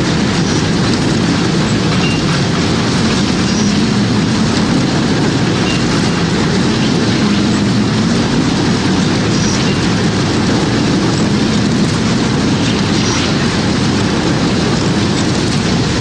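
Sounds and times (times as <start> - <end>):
tornado wind rumble: 0.0 - 16.0.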